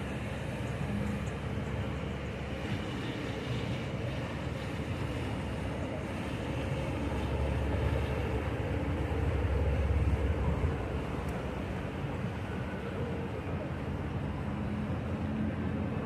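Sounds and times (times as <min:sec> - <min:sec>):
yacht engines rumbling: 0:00.0 - 0:16.0.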